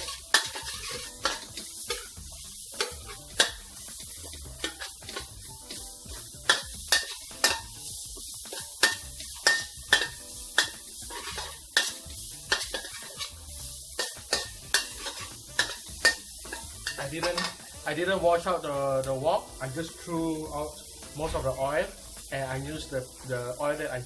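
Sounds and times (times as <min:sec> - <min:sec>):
spatula scraping a wok: 0:00.0 - 0:23.9
onion sizzling in hot oil: 0:00.0 - 0:24.0.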